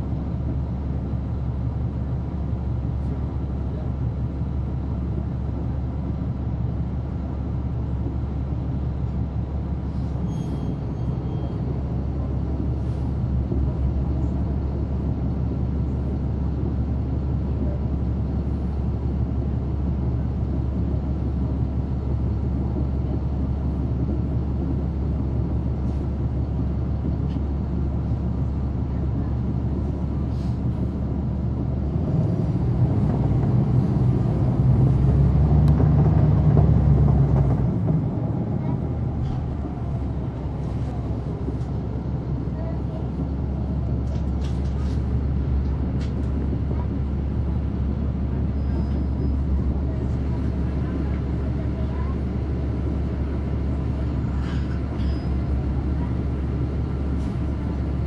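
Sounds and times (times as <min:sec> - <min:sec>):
bus diesel engine humming: 0:00.0 - 0:58.0.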